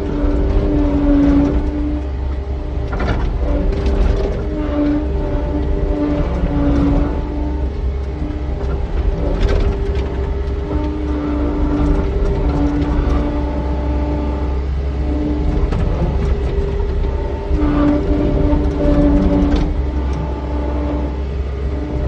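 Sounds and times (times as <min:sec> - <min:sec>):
machine whining tones: 0:00.0 - 0:22.0
skid steer engine rumble: 0:00.0 - 0:22.0.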